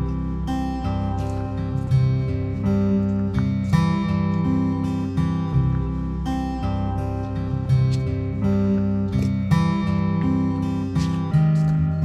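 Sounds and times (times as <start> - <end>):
guitar chords ringing: 0.0 - 12.0.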